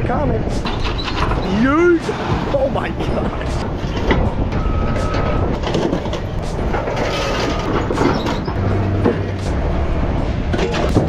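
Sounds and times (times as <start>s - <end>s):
engine and hydraulics running: 0.0s - 11.0s.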